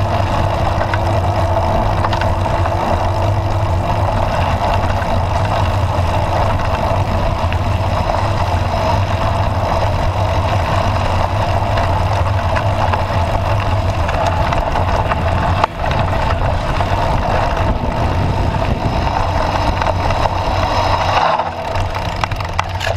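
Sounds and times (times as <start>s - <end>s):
low hum: 0.0s - 22.9s
road rumble: 0.0s - 22.9s
wind: 0.0s - 22.9s.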